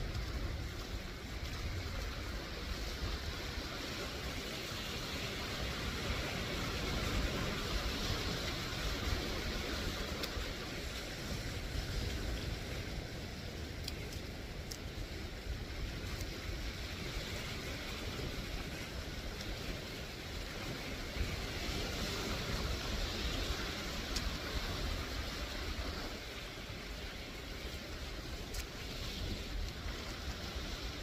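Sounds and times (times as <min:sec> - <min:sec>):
waves washing over rocky shore: 0:00.0 - 0:31.0
wind rumbling on microphone: 0:00.0 - 0:31.0.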